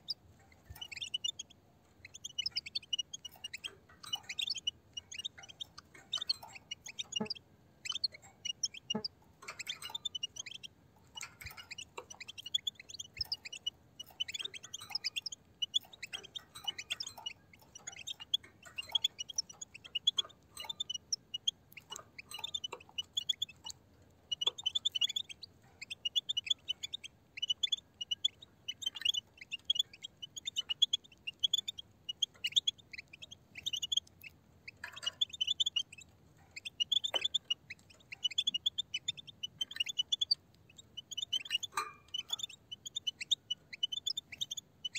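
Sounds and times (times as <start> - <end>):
finches twittering: 0.0 - 44.9.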